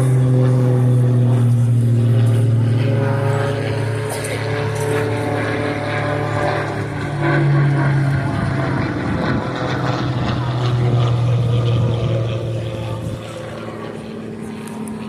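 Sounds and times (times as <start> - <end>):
propeller airplane engine droning: 0.0 - 15.0.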